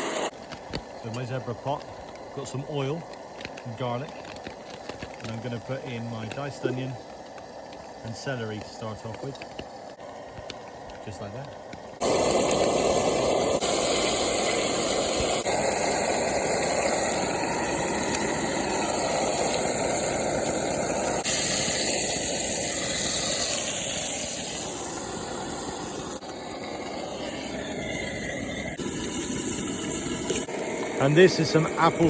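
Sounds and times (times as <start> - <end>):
vegetables sizzling in hot oil: 0.0 - 32.0.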